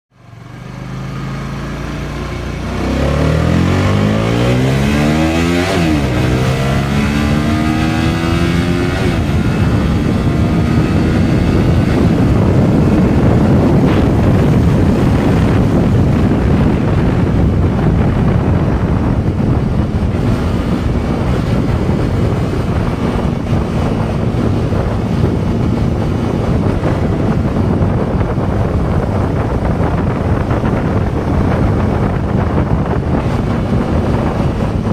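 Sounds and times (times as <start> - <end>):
motorcycle engine accelerating: 0.1 - 34.9
wind noise on microphone: 0.2 - 34.9.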